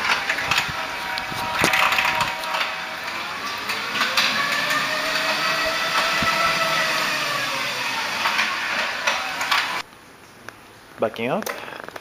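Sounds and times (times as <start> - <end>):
electric motor whine: 0.0 - 9.8
gearbox grinding clatter: 0.0 - 9.8.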